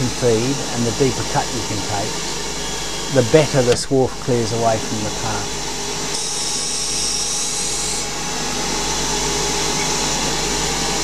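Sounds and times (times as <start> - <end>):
high drill cutting hiss: 0.0 - 11.0
lathe spindle running: 0.0 - 11.0.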